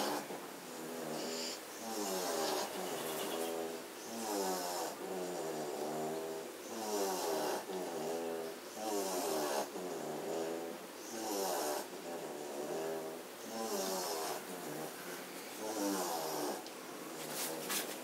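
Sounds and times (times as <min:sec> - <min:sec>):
puppy snoring: 0:00.0 - 0:15.0, 0:15.6 - 0:16.7.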